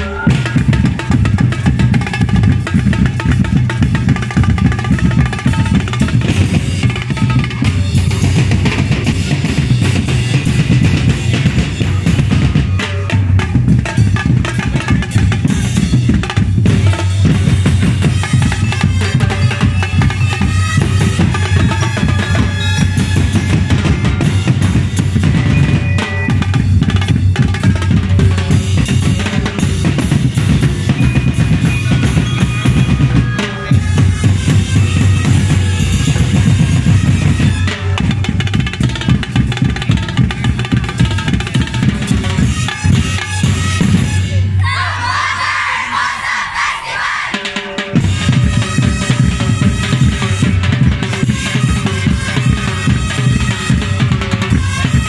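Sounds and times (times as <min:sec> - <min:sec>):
fast drum percussion music: 0:00.0 - 0:44.6, 0:47.3 - 0:55.0.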